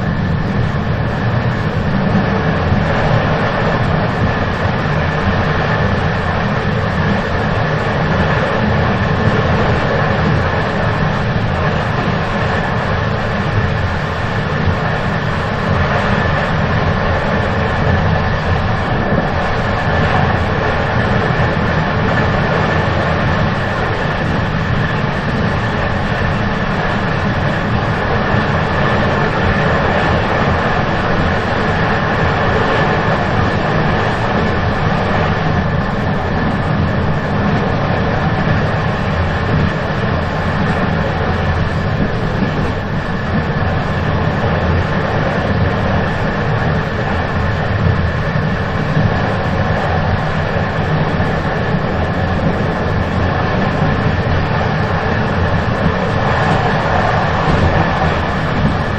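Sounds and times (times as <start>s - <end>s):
moving train rumbling: 0.0s - 58.9s.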